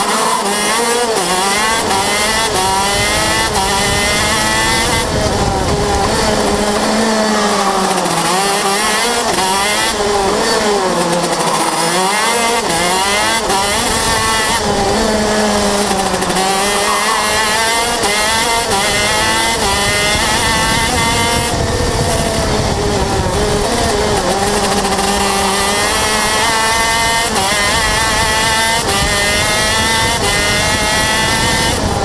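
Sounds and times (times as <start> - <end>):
kart engine revving: 0.0 - 32.0.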